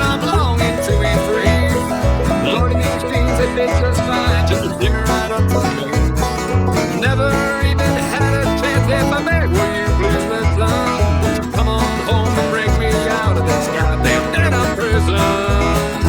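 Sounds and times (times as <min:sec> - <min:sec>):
banjo picking: 0:00.0 - 0:16.0
guitar picking: 0:00.0 - 0:16.0
pulsing bass line: 0:00.0 - 0:16.0.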